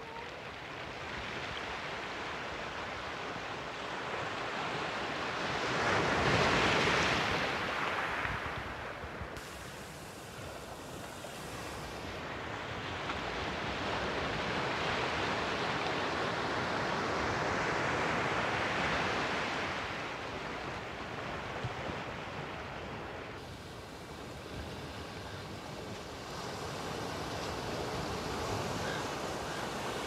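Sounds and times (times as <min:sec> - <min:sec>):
waves washing over sand: 0:00.0 - 0:30.0.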